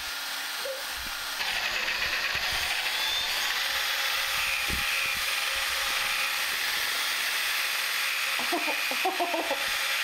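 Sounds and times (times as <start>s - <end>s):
drill whisking batter: 0.0s - 10.0s.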